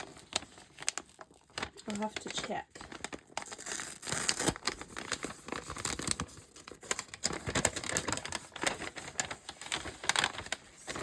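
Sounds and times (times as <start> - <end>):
packaging crinkling and rustling: 0.0 - 11.0
packaging tearing: 0.0 - 11.0.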